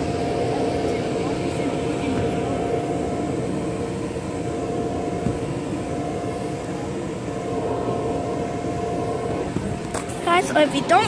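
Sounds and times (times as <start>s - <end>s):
machine drone with hum: 0.0s - 11.0s.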